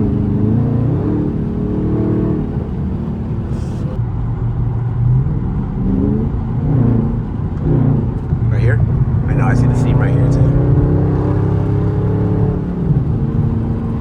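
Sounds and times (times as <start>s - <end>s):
car exhaust accelerating: 0.0s - 14.0s.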